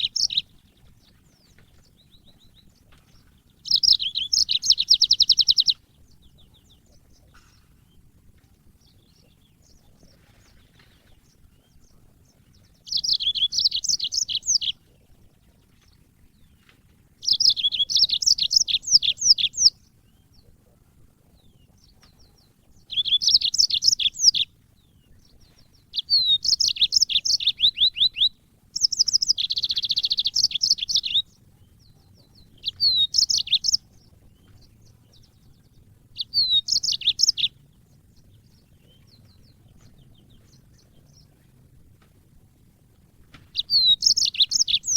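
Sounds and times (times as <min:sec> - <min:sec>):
canary chirping trills: 0:00.0 - 0:44.9.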